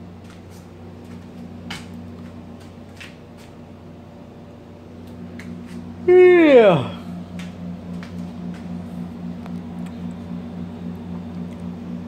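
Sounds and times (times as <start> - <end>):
appliance humming: 0.0 - 12.0.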